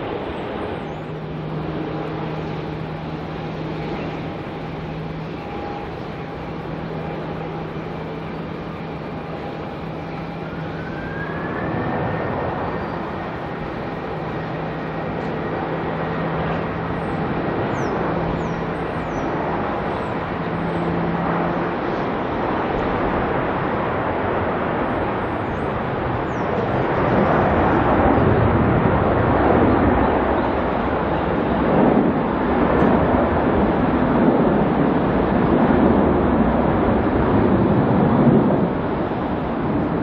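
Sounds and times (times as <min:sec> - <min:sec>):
jet engines whining: 0:00.0 - 0:40.0
traffic noise: 0:00.0 - 0:40.0.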